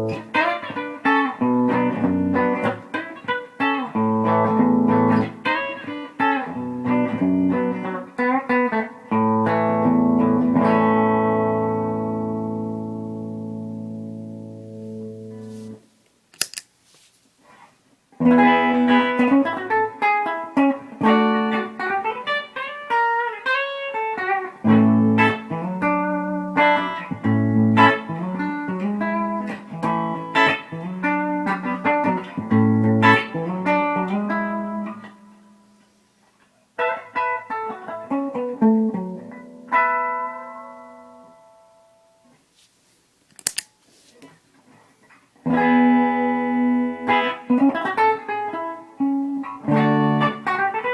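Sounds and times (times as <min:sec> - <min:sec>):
electric guitar riffs: 0:00.0 - 0:15.5, 0:18.2 - 0:35.8, 0:36.8 - 0:42.2, 0:45.4 - 0:50.9.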